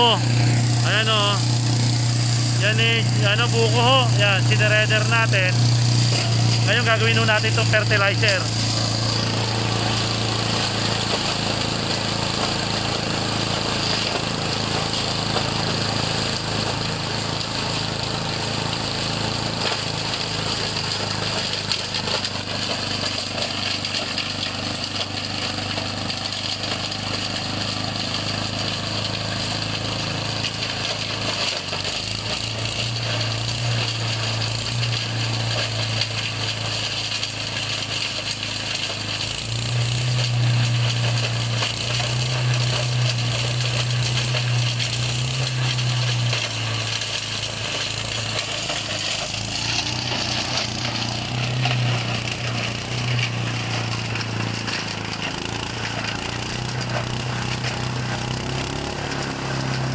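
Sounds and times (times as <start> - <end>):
blades grinding branches: 0.0 - 59.9
shredder engine drone: 0.0 - 59.9.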